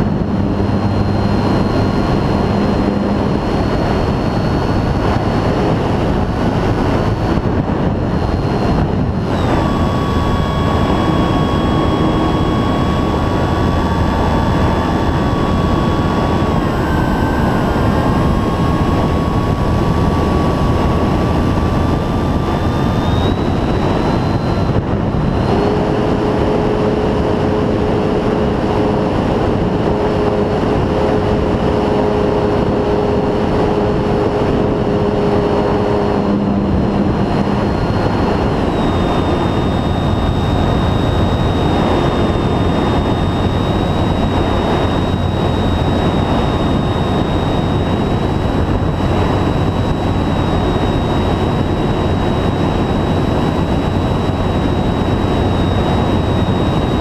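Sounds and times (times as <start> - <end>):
high whine of motor and propeller: 0.0 - 57.0
low hum: 0.0 - 57.0
wind noise on microphone: 0.0 - 57.0.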